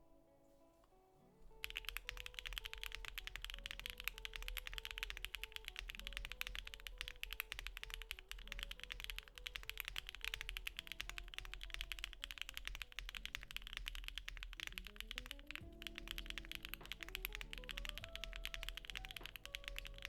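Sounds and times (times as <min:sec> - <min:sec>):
fast mechanical keyboard typing: 0:01.6 - 0:20.0.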